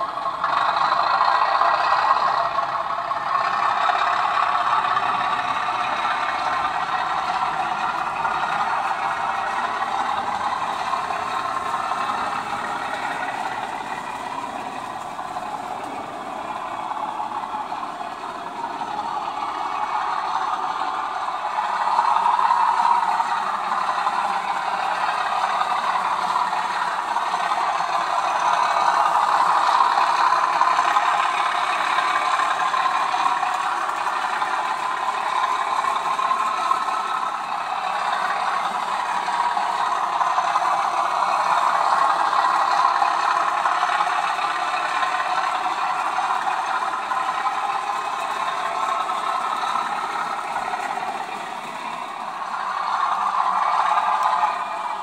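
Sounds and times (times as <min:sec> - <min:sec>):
model train running on track: 0:00.0 - 0:55.0.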